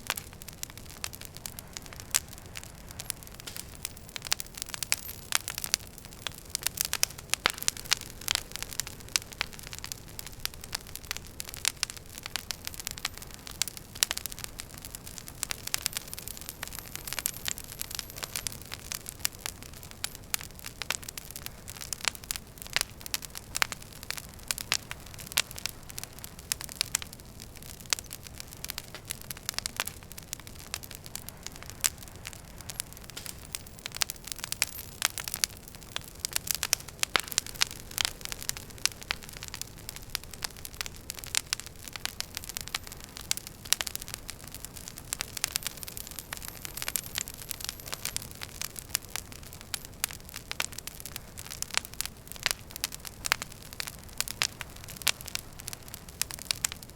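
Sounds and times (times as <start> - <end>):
hiss of burning logs: 0.0 - 56.9
wood fire crackling: 0.0 - 56.9.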